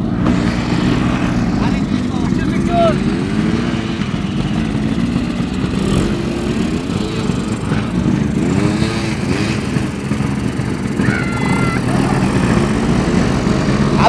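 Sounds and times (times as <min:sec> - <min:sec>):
quad bike engine revving: 0:00.0 - 0:14.0.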